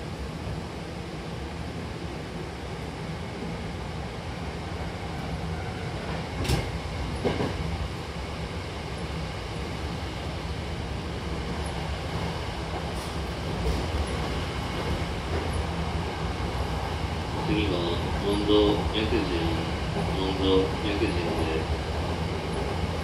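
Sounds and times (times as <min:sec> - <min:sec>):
train low rumble: 0:00.0 - 0:23.0.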